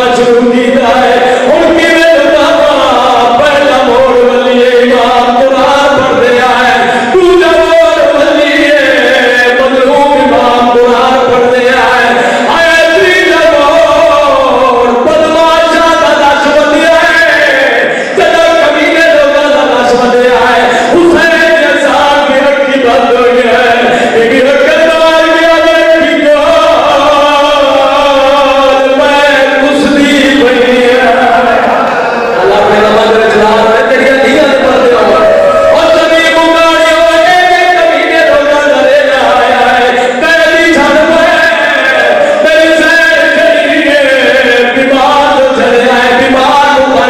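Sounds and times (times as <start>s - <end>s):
man chanting into a microphone: 0.0s - 47.0s.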